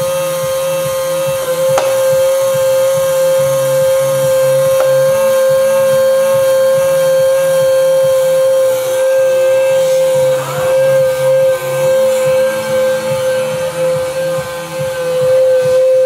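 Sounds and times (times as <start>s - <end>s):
high-pitched electric whine: 0.0s - 16.0s.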